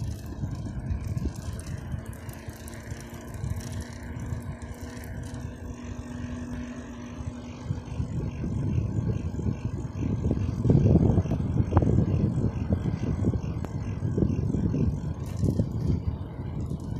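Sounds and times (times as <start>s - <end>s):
bicycle tyres on asphalt: 0.0s - 16.9s
steady low hum: 0.0s - 16.9s
wind buffeting the microphone: 0.0s - 16.9s.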